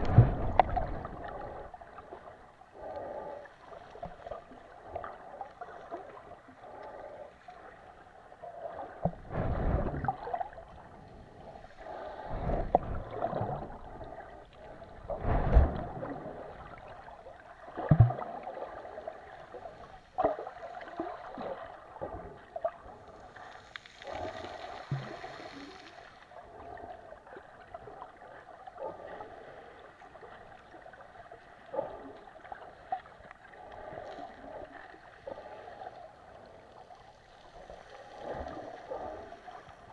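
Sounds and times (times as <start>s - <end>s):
sea water lapping and splashing: 0.0s - 39.9s.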